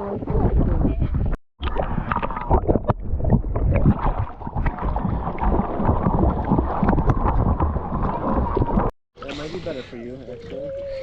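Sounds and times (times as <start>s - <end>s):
wind rumbling on microphone: 0.0s - 8.9s.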